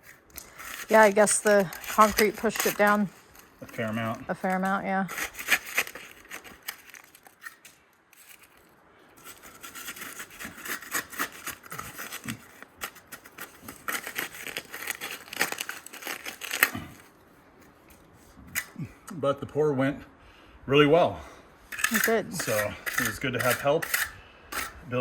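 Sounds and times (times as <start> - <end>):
scraping on fresh concrete: 0.0 - 18.6, 21.7 - 25.0.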